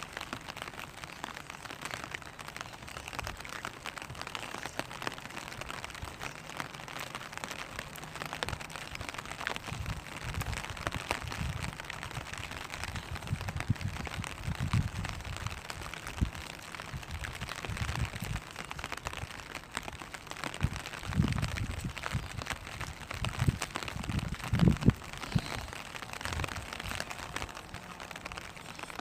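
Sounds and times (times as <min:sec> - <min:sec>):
rain pattering on an umbrella: 0:00.0 - 0:29.0
steady hiss of rain: 0:00.0 - 0:29.0.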